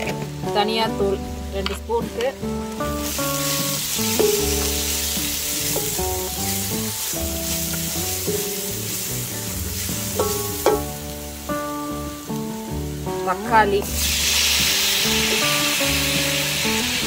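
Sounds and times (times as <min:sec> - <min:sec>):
instrumental background music: 0:00.0 - 0:17.0
masala sizzling in oil: 0:00.0 - 0:17.0.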